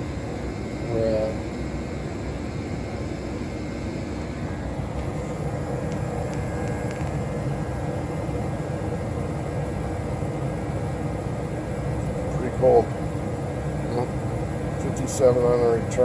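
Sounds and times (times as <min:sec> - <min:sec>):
furnace blower rumbling: 0:00.0 - 0:16.0.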